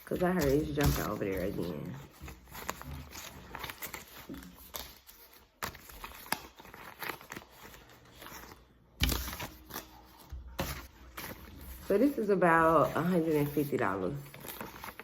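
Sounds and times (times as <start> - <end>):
banknotes rustling: 0.0 - 15.0.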